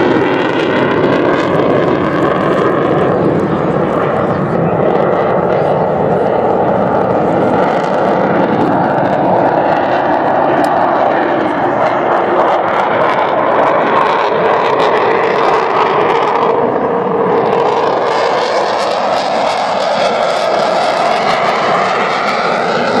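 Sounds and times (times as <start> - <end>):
fighter jet engine roar: 0.0 - 23.0.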